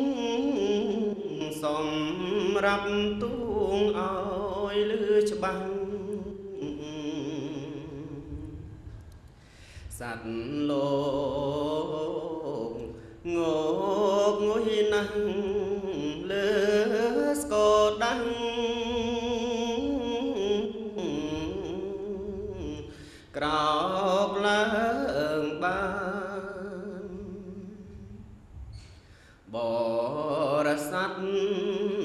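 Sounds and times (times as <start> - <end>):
person chanting: 0.0 - 9.1, 9.8 - 28.6, 29.5 - 32.0.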